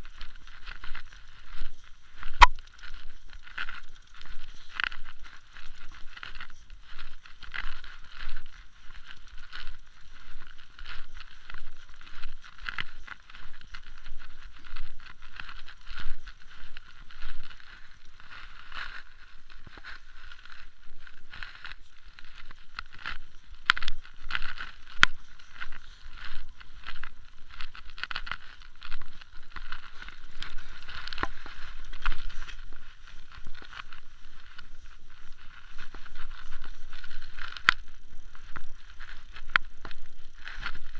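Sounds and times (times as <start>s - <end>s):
bike rattling and clattering: 0.0s - 40.9s.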